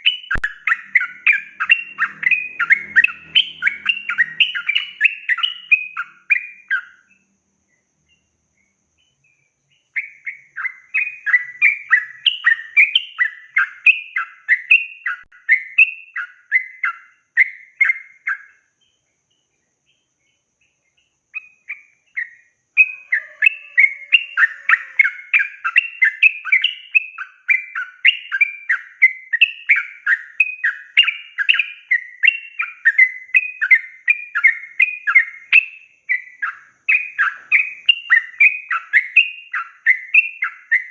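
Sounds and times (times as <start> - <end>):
bird chattering song: 0.0 - 40.9.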